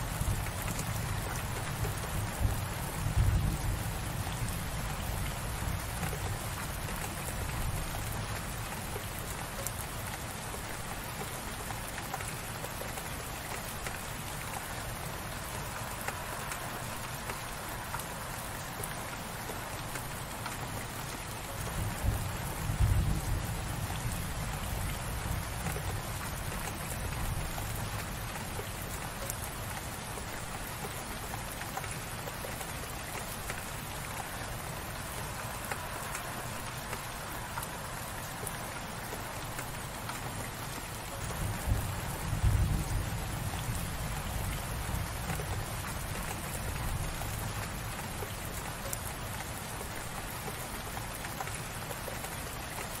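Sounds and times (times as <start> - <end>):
gentle rain falling: 0.0 - 53.0.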